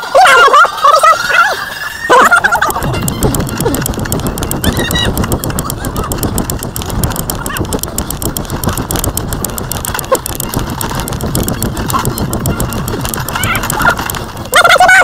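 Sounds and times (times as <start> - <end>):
running footsteps on dirt path: 1.8 - 15.0
wind rumbling on microphone: 2.3 - 15.0.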